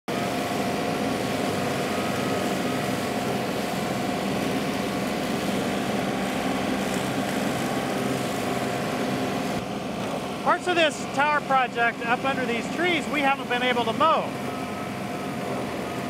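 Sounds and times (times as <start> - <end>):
hydraulic mower whine: 0.1 - 16.0
tractor engine running: 0.1 - 16.0.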